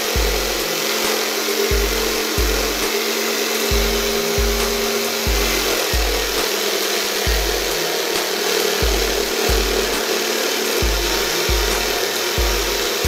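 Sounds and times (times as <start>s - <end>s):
jigsaw cutting fibreboard: 0.0s - 13.0s.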